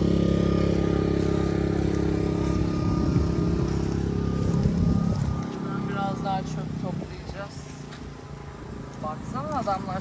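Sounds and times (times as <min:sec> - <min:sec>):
small petrol engine running: 0:00.0 - 0:10.0.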